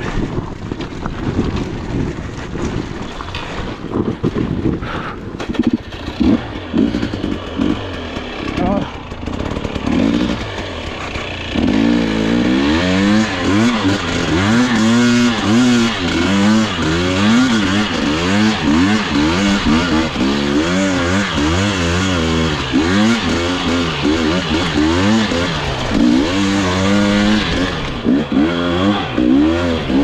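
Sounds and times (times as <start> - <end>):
dirt bike engine revving: 1.2 - 30.0.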